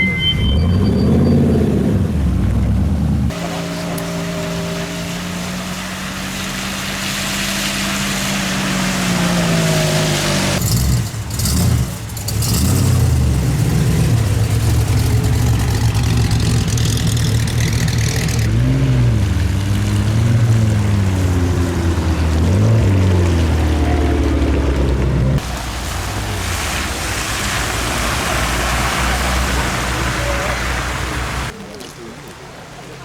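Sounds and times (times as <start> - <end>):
car engine revving: 0.5 - 31.5.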